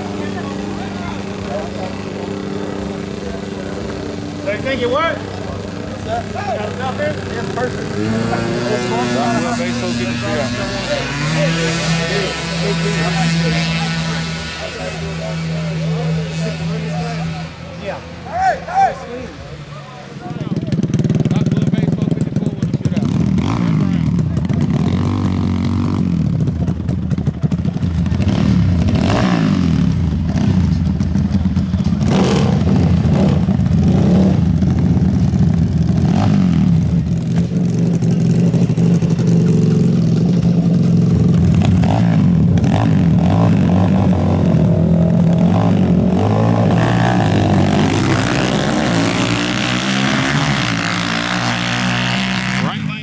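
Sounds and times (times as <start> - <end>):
quad engines running and revving: 0.0 - 53.0.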